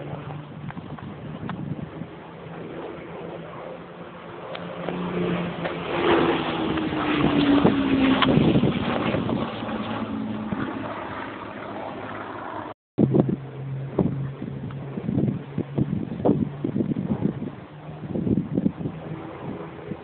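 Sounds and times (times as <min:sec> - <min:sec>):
propeller plane engine passing overhead: 0:00.0 - 0:20.0.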